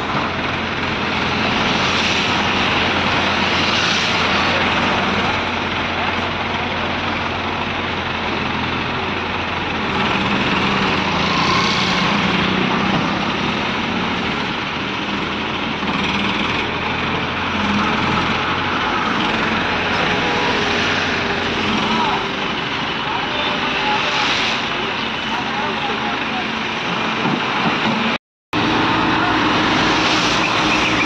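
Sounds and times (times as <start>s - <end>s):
crane diesel engine running: 0.0s - 31.0s.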